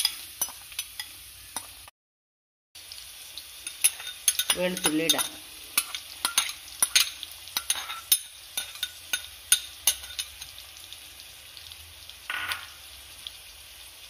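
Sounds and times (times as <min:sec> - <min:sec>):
crackles and pops of frying: 0:00.0 - 0:01.9, 0:02.8 - 0:14.0
shallots and garlic sizzling in oil: 0:00.0 - 0:01.9, 0:02.8 - 0:14.0.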